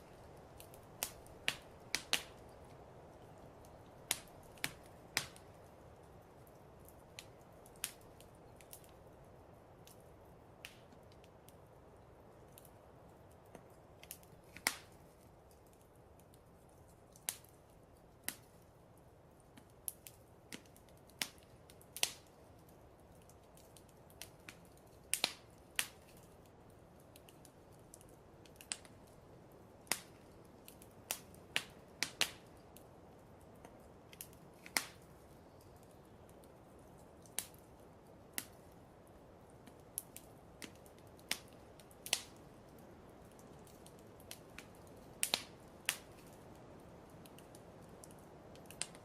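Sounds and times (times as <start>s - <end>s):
low steady hiss: 0.0s - 49.0s
wood fire crackling: 0.0s - 49.0s.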